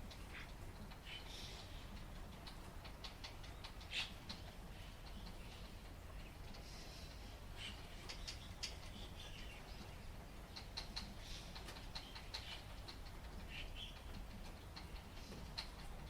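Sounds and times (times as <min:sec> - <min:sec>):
raindrops ticking and dripping: 0:00.0 - 0:16.0.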